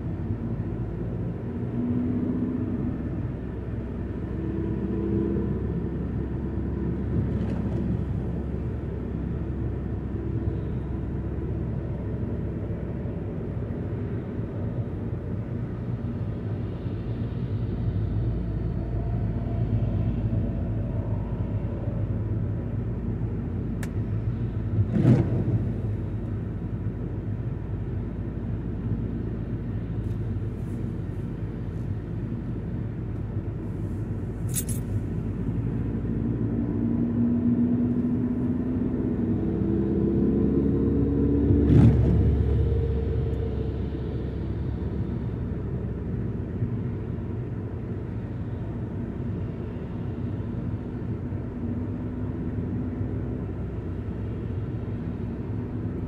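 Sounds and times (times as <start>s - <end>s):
car engine: 0.0s - 56.0s
road rumble: 0.0s - 56.0s.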